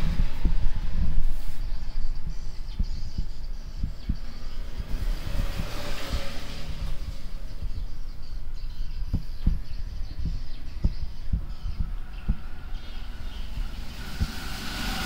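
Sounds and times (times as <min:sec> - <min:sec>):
dull low thumps: 0:00.0 - 0:14.5
steady low rumble: 0:00.0 - 0:15.0.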